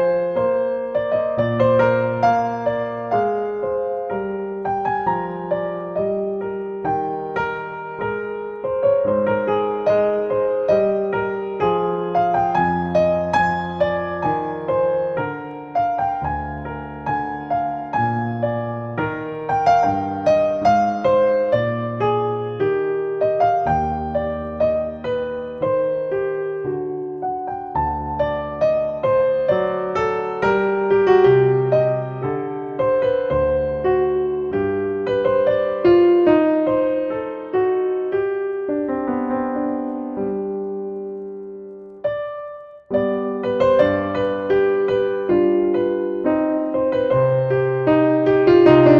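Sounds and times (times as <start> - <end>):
calm piano music: 0.0 - 48.9.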